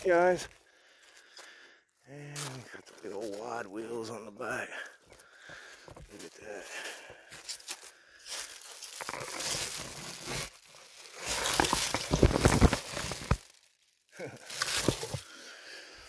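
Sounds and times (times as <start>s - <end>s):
footsteps crunching through dry grass: 0.0s - 15.4s.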